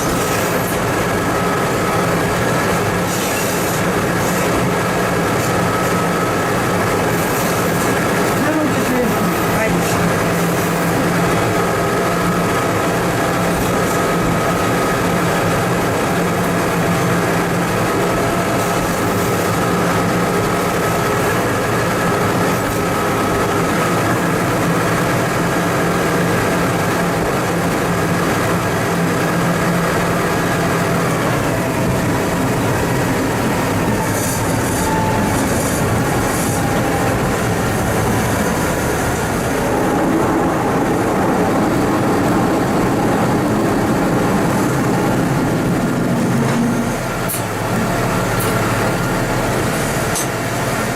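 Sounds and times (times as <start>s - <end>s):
rail car engine running: 0.0s - 50.9s
wheels on rails: 0.0s - 50.9s.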